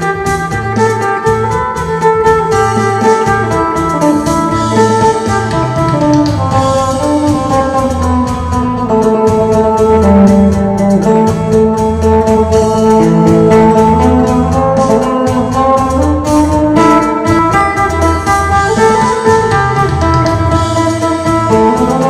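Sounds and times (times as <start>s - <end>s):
plucked lute melody: 0.0s - 22.0s
steady low beat: 0.0s - 22.0s.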